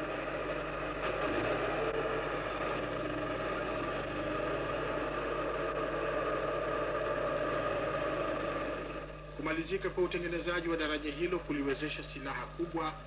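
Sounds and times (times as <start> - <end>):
engine running steadily: 0.0 - 11.3.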